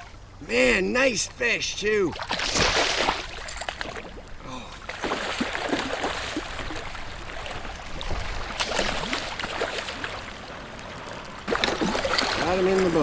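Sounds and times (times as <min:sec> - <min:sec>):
water splashing against kayak: 0:02.0 - 0:13.0.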